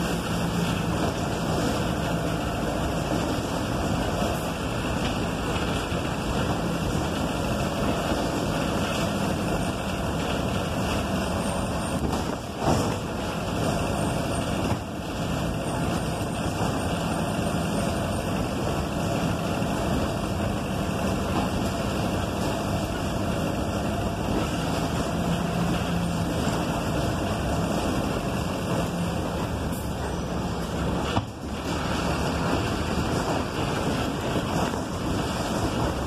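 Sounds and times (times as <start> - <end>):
bus engine and road noise: 0.0 - 36.0.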